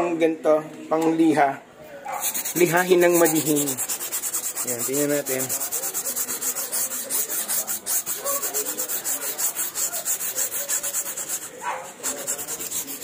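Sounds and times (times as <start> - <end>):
sandpaper rasping on canvas: 2.1 - 13.0.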